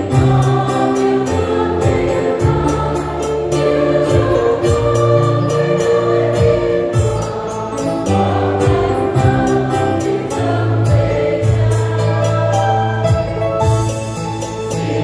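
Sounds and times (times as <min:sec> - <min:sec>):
mixed choir singing a hymn: 0:00.0 - 0:13.1, 0:14.0 - 0:15.0
steady percussive beat: 0:00.0 - 0:15.0.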